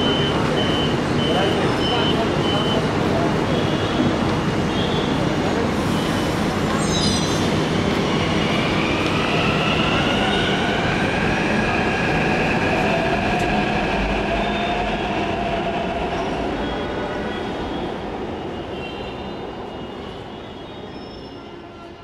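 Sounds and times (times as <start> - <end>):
high train whine: 0.0 - 22.0
train wheels rumbling on track: 0.0 - 22.0.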